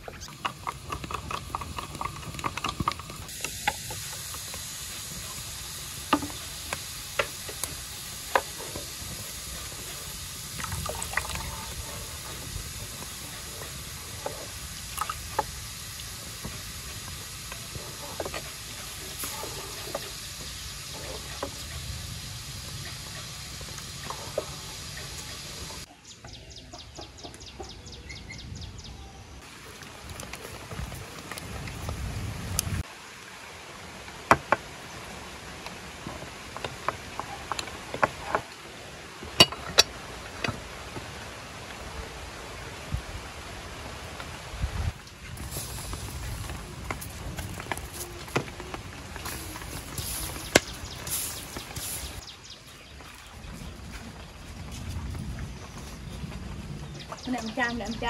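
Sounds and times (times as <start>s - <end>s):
firewood crackling and popping: 0.0s - 25.9s, 29.4s - 41.9s, 43.9s - 57.3s
pot simmering: 0.0s - 25.9s, 29.4s - 52.2s.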